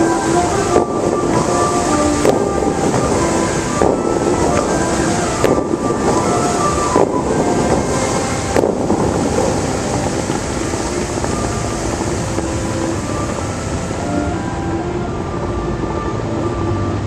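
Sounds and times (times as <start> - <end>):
fountain water jets rushing: 0.0 - 17.0.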